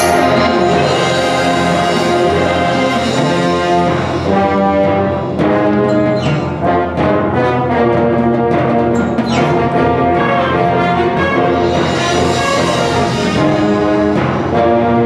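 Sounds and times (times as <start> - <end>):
brass chords: 0.0 - 15.0
symphonic band playing: 0.0 - 15.0.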